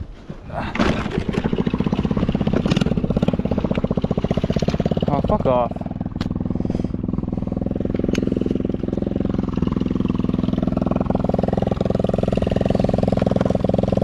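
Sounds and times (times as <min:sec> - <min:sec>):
small engine idling: 0:00.6 - 0:14.0.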